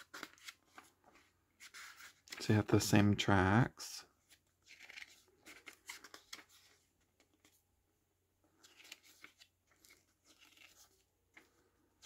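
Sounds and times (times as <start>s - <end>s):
paper pages being turned: 0.0s - 2.8s, 4.2s - 7.6s, 8.5s - 12.0s.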